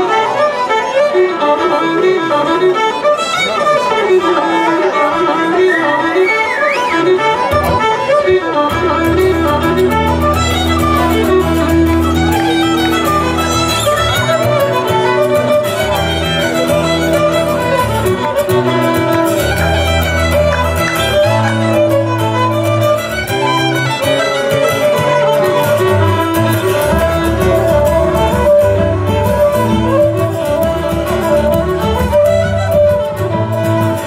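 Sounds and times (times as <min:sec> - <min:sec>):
fiddles: 0:00.0 - 0:34.0
live band playing lively tune: 0:00.0 - 0:34.0.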